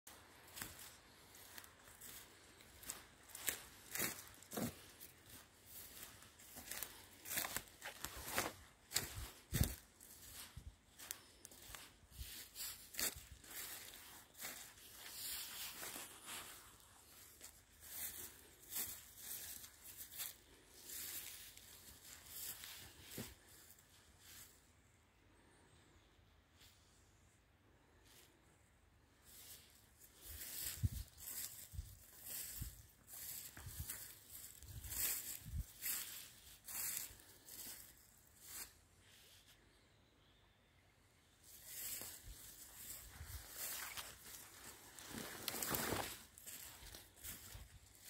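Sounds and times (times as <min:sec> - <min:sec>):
footsteps crunching dry leaves: 0:00.1 - 0:24.5, 0:29.2 - 0:39.4, 0:41.4 - 0:48.0.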